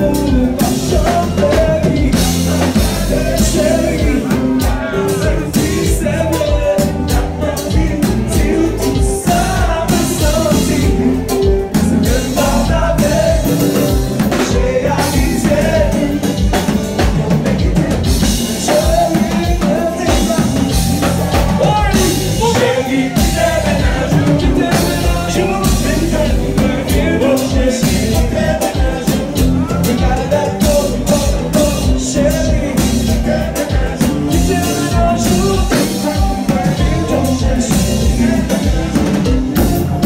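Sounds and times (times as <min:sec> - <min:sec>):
band music with lead singer: 0:00.0 - 0:40.0.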